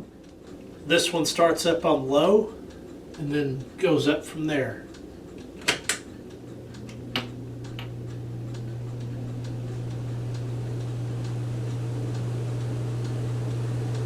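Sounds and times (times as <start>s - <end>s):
fan motor hum: 0.0s - 14.0s
light ticking: 1.6s - 14.0s.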